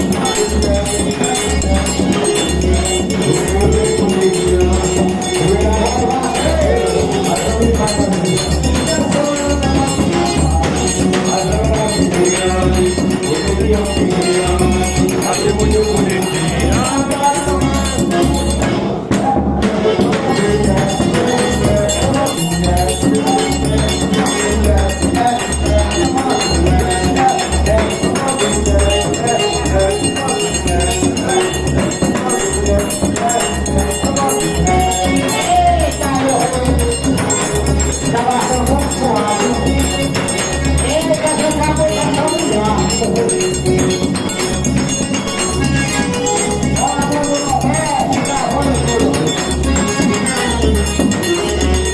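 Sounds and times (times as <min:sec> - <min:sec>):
dance music with singing: 0:00.0 - 0:51.5
jingling percussion: 0:00.0 - 0:51.9.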